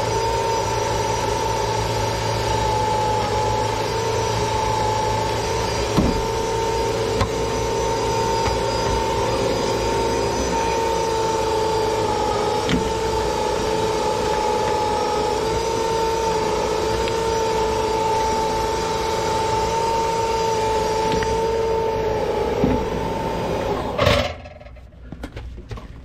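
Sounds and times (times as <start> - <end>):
electric motor whining: 0.0 - 24.4.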